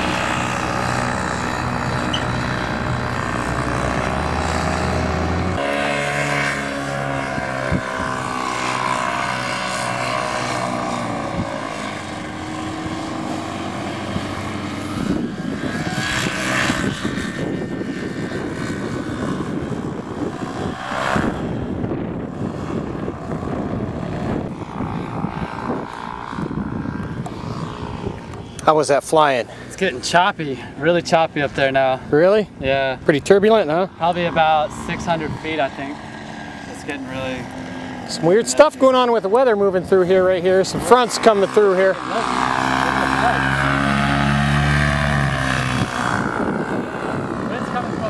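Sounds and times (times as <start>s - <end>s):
paramotor engine and propeller: 0.0s - 48.0s
wind on microphone: 0.0s - 48.0s.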